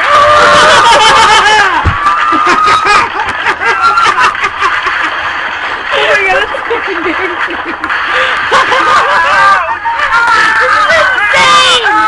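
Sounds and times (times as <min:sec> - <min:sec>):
people laughing: 0:00.2 - 0:11.8.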